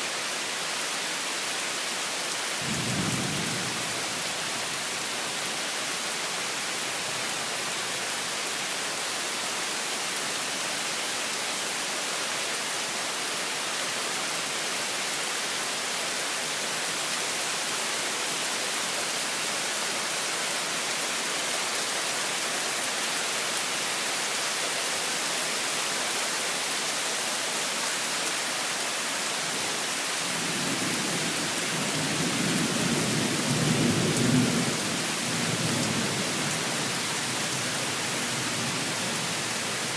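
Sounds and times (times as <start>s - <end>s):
torrential rain: 0.0s - 39.9s.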